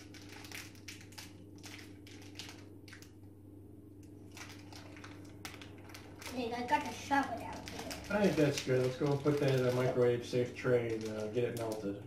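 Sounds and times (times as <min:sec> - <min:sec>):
plastic wrapper crinkling: 0:00.0 - 0:03.3, 0:04.0 - 0:12.0.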